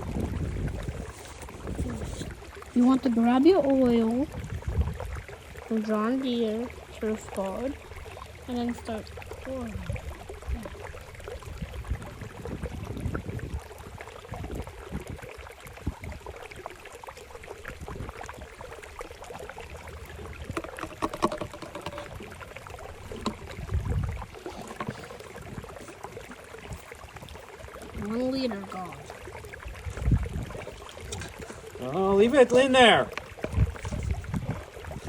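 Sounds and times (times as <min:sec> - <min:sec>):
oil glugging through funnel: 0:00.0 - 0:35.0.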